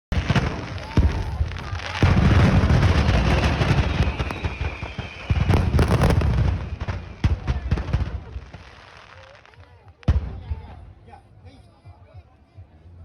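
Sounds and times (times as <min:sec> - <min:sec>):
fireworks bangs and crackling: 0:00.1 - 0:11.2.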